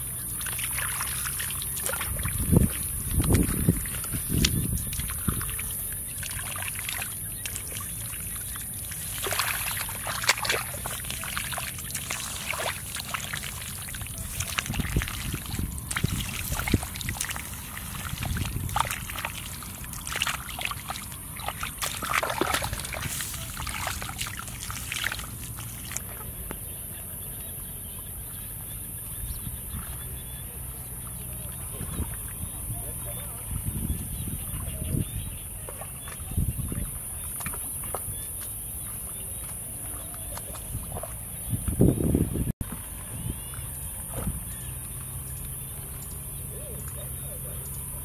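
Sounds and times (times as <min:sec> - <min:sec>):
muddy water sloshing and splashing: 0:00.0 - 0:26.8, 0:27.8 - 0:48.0.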